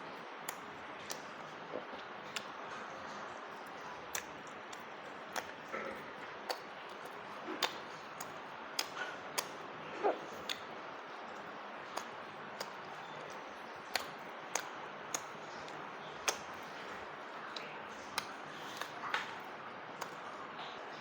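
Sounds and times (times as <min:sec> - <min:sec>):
chewing with lip smacks: 0:00.4 - 0:21.0.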